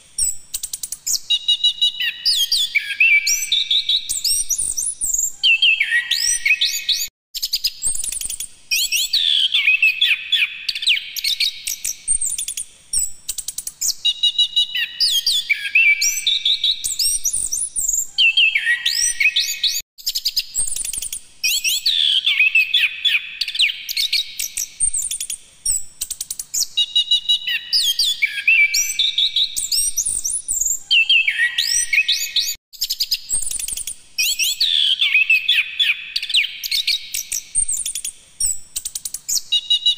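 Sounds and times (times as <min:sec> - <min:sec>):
thrush singing whistles and trills: 0:00.0 - 0:39.9.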